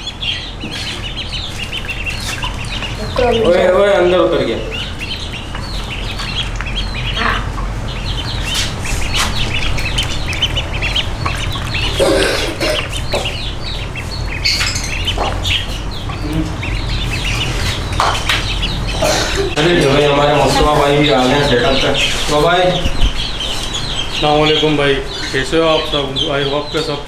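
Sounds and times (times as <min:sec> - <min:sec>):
ducklings peeping: 0:00.0 - 0:27.0.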